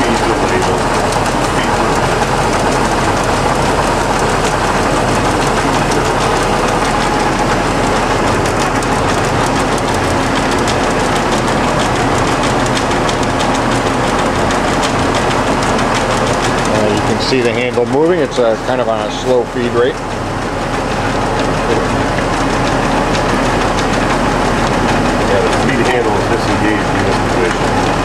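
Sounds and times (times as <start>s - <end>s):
lathe motor droning: 0.0s - 28.0s.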